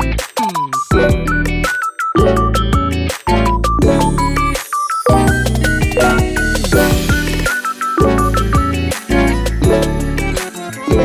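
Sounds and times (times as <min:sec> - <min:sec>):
upbeat music with strong bass: 0:00.0 - 0:11.0.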